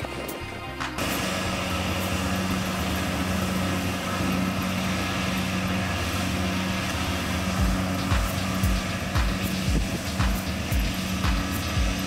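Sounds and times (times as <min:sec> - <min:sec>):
combine harvester humming: 0:00.0 - 0:12.0.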